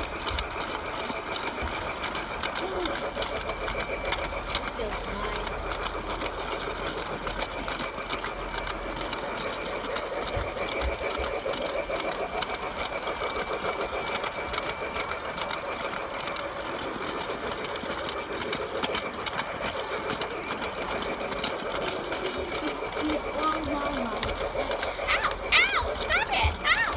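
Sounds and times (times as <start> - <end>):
toy train motor whirring: 0.0 - 26.9
toy train wheels rattling on track: 0.0 - 26.9.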